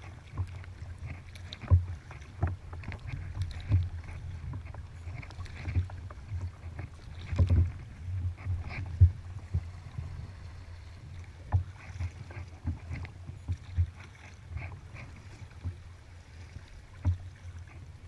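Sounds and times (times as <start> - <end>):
paddle splashing in water: 0.0 - 18.0.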